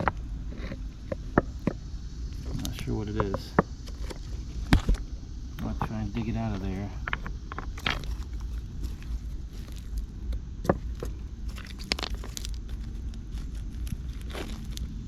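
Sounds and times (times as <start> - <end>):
low rumble: 0.0 - 15.0
scraping in soil and gravel: 2.3 - 15.0.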